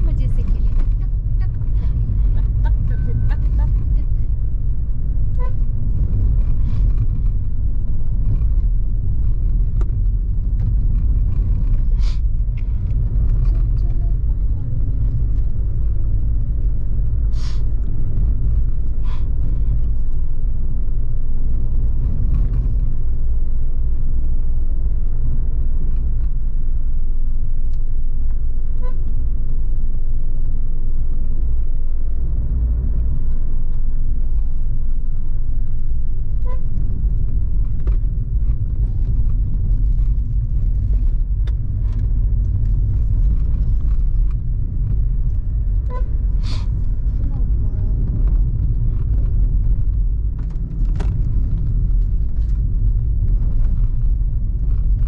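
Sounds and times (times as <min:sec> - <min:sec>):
car engine rumble: 0:00.0 - 0:55.0
tyres on the road: 0:00.0 - 0:55.0.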